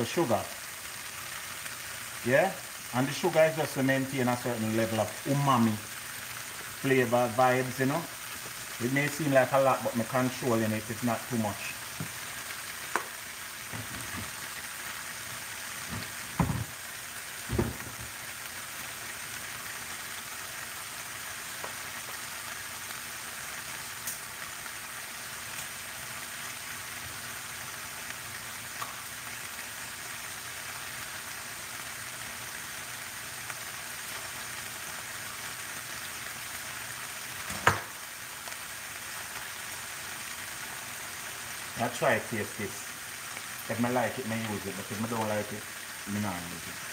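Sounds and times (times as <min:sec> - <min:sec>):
stir-fry sizzling in a skillet: 0:00.0 - 0:46.9.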